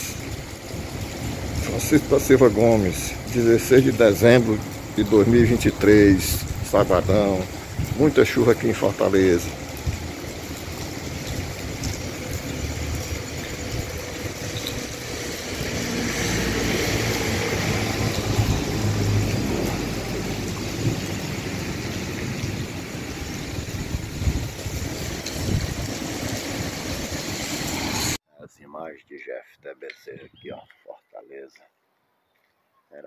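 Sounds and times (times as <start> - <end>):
heavy rain on pavement: 0.0 - 28.2.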